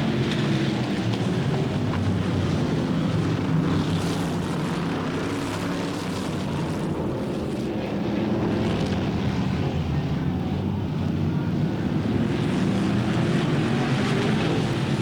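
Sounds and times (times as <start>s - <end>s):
stock car engines racing: 0.0s - 15.0s.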